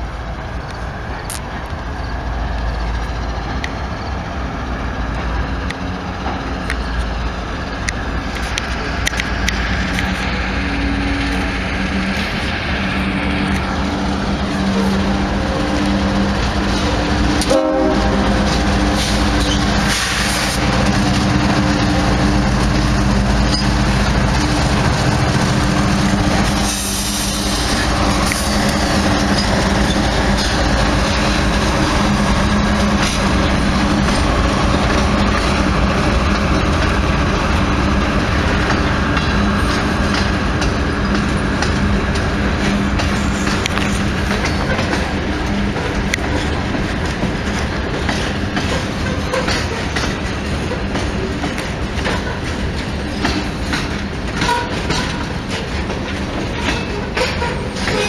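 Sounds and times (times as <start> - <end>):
locomotive engine hum: 0.0 - 58.0
rumble of train wheels: 0.0 - 58.0
wheels clacking over rail joints: 0.4 - 58.0.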